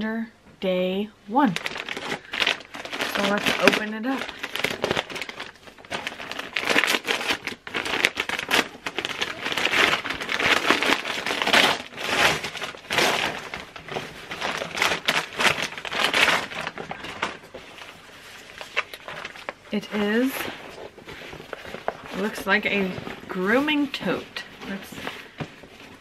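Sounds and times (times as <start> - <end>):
wrapping paper rustling: 1.4 - 26.0.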